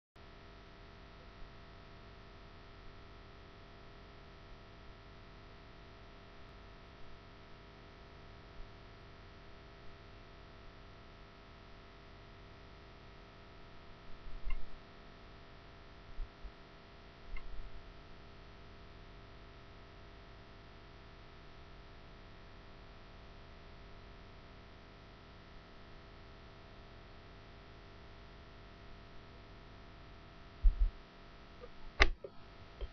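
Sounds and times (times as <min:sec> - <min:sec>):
electrical hum with whine: 0:00.2 - 0:32.9
microphone hiss: 0:00.2 - 0:32.9.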